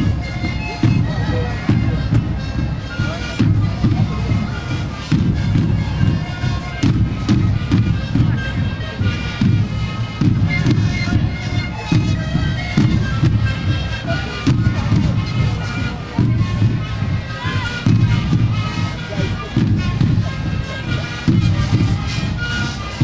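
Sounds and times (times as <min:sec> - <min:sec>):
bass drum beats: 0:00.0 - 0:22.4
panpipes chorus: 0:00.0 - 0:23.0.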